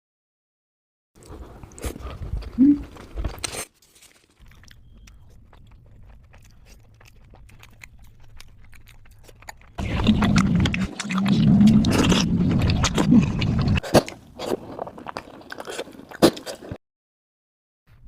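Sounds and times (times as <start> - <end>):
chewing and crunching: 1.2 - 16.8.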